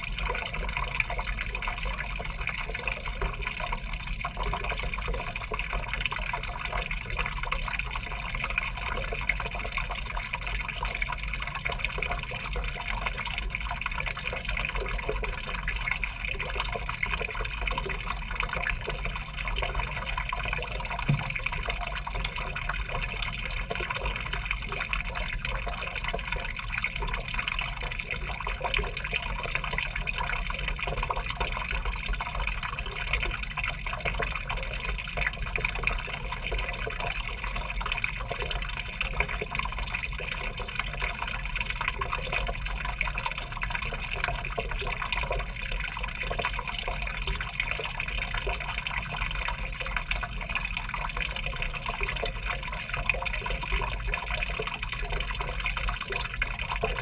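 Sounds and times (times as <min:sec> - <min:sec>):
water pouring into washing machine: 0:00.0 - 0:57.0.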